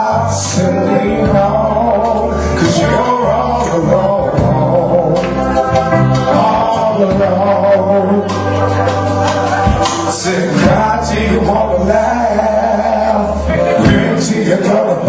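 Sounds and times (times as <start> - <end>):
man singing: 0.0 - 15.0
musical backing with bass notes: 0.0 - 15.0.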